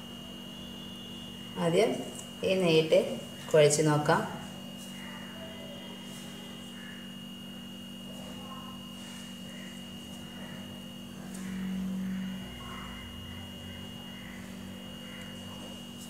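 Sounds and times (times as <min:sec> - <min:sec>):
high-pitched whine: 0:00.0 - 0:16.0
low hum: 0:00.0 - 0:16.0.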